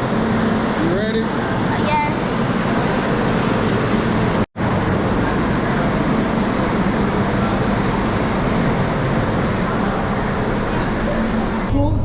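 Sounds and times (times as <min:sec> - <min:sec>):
road and engine noise in vehicle: 0:00.0 - 0:12.0.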